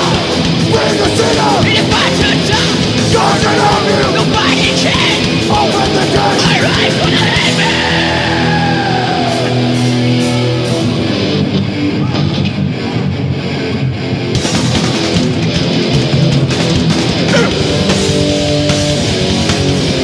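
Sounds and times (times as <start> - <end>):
thrash metal band playing: 0.0 - 20.0.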